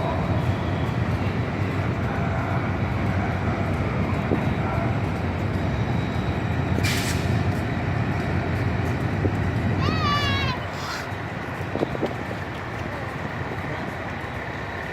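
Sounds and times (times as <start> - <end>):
diesel train rumbling: 0.0 - 14.9.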